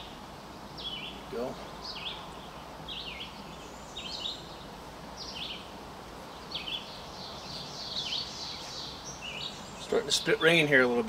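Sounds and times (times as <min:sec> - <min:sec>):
outdoor background hiss: 0:00.0 - 0:11.0
songbird singing: 0:00.0 - 0:11.0.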